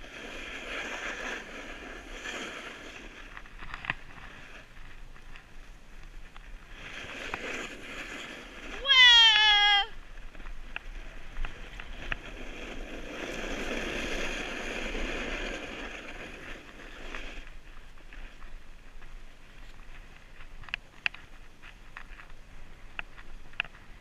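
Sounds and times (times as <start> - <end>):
skis scraping over snow: 0.0 - 24.0.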